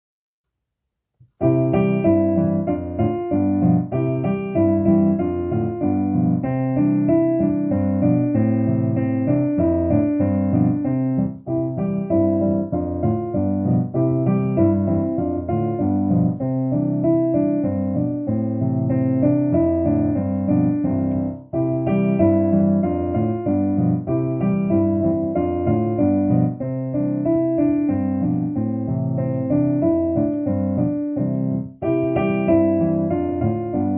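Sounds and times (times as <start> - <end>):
piano playing short phrases: 1.3 - 33.9.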